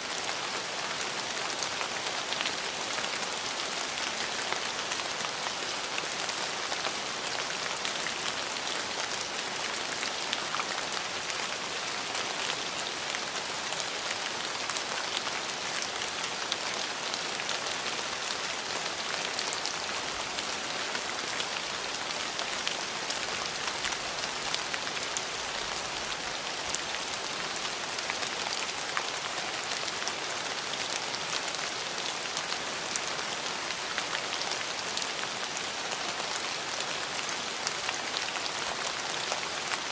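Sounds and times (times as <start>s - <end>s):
rain pattering on hard surface: 0.1s - 39.9s.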